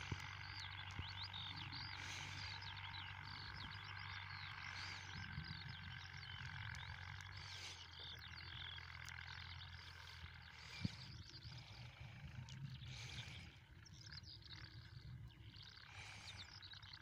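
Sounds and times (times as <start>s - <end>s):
birds chirping: 0.0s - 17.0s
distant tractor engine drone: 0.0s - 17.0s.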